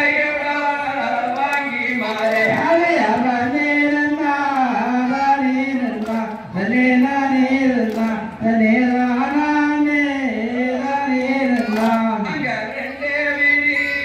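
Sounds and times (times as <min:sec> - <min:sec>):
person singing slow melody: 0:00.0 - 0:14.0.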